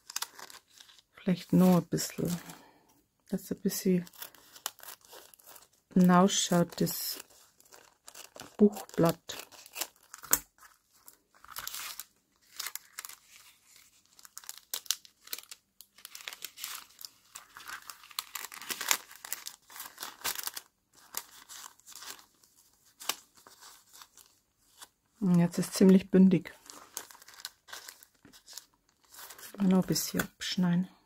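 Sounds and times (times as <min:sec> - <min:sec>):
cellophane bag crinkling: 0:00.0 - 0:02.7, 0:03.6 - 0:25.0, 0:25.7 - 0:30.3.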